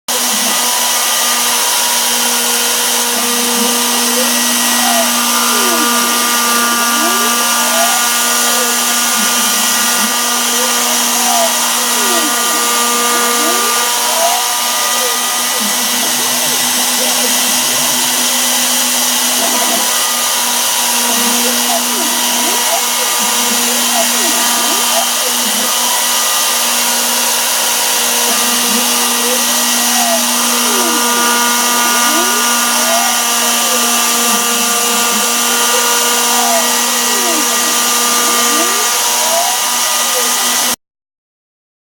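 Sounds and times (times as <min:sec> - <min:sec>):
cnc router spindle humming: 0:00.1 - 0:40.8
stepper motors whining: 0:00.1 - 0:40.8.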